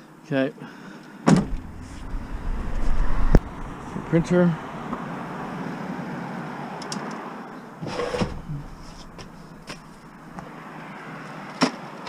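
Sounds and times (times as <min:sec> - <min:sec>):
low traffic hum: 0:01.3 - 0:11.0.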